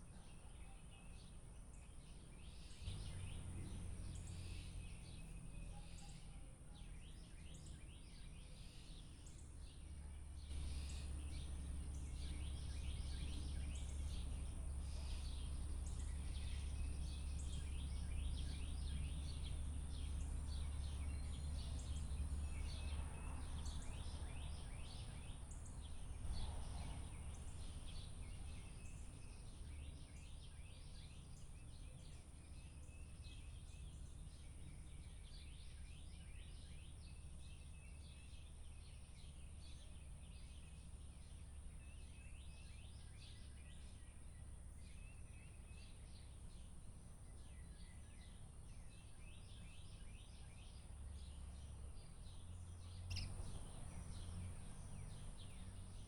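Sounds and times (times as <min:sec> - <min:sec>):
small birds chirping: 0:00.0 - 0:56.0
low steady rumble: 0:01.5 - 0:56.0.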